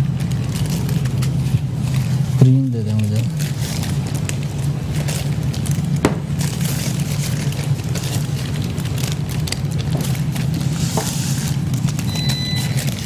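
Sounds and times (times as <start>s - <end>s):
baking paper rustling and crinkling: 0.0s - 13.0s
sharp paper crackle: 0.0s - 13.0s
steady low hum: 0.0s - 13.0s.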